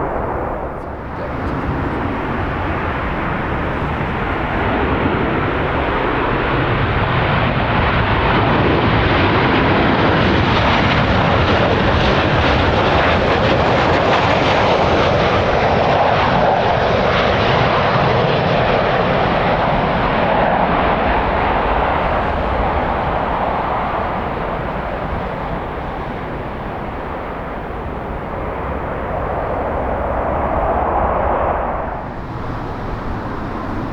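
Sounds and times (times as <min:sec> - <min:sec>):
jet airliner engines: 0:00.0 - 0:33.9
wind noise: 0:00.0 - 0:33.9.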